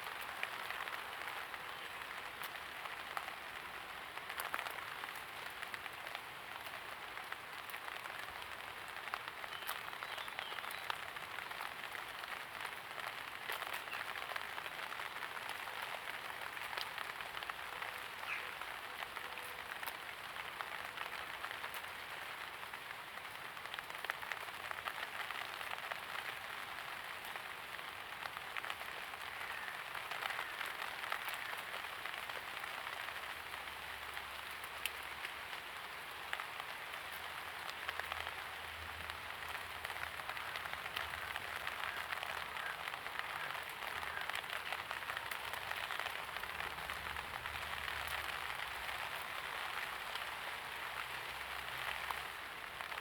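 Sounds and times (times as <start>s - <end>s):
rain pattering on hard surfaces: 0.0s - 53.0s.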